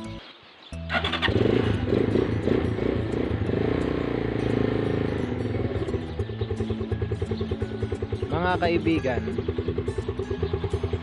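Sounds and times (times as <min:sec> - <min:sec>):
motorcycle engine starting and running: 0:00.8 - 0:11.0.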